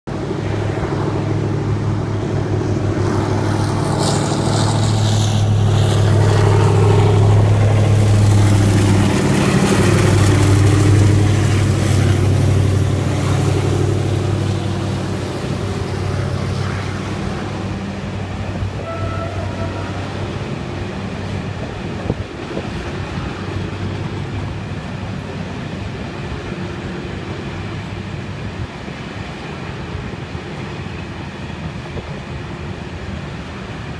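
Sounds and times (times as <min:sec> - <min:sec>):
diesel locomotive engine drone: 0:00.1 - 0:33.9.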